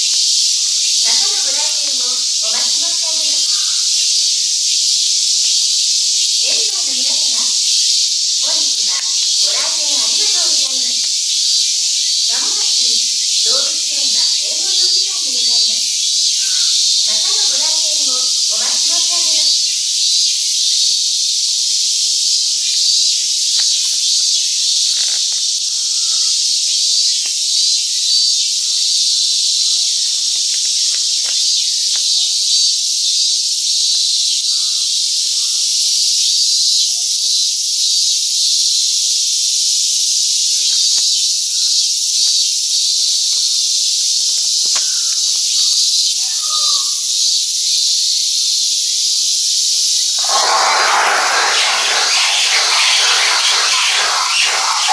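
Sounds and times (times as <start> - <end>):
cicadas singing: 0.0 - 54.9.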